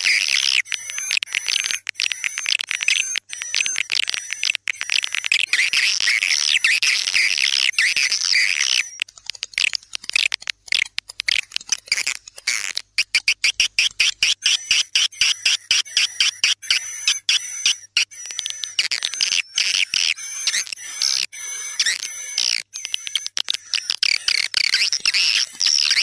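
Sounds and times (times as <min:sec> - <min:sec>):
rapid clicking chirps: 0:00.0 - 0:26.0
swiftlets chirping and twittering: 0:00.0 - 0:26.0.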